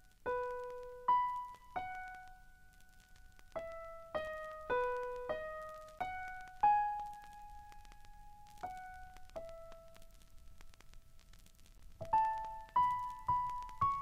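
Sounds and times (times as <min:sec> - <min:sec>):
slow solo piano melody: 0:00.0 - 0:10.4, 0:12.0 - 0:14.0.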